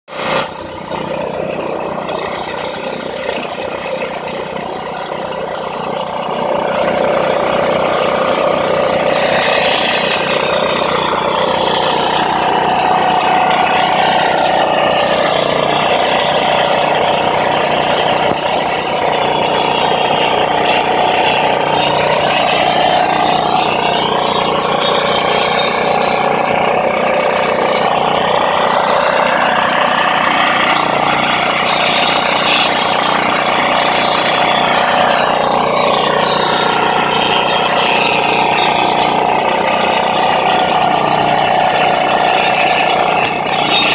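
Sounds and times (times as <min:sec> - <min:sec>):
heavy rushing noise: 0:00.0 - 0:43.9
large engine running: 0:00.0 - 0:43.9.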